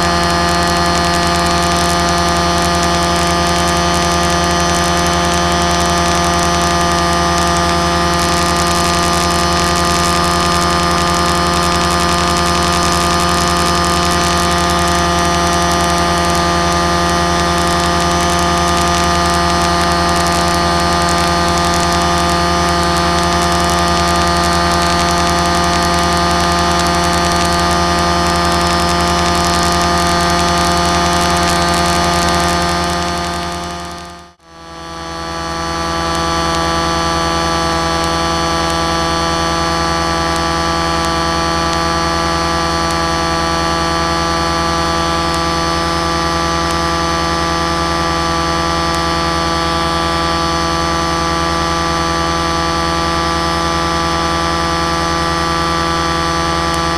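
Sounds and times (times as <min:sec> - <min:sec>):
aircraft propeller engine drone: 0:00.0 - 0:56.9.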